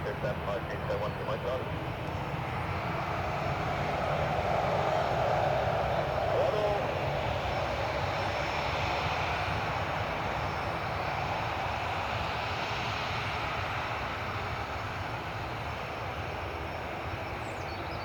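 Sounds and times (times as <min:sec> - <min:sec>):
jet airliner engines passing: 0:00.0 - 0:18.0.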